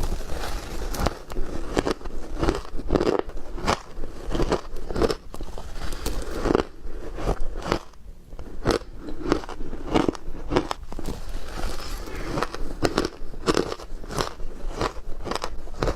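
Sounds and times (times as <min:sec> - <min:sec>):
person crunching ice: 0:00.0 - 0:15.9.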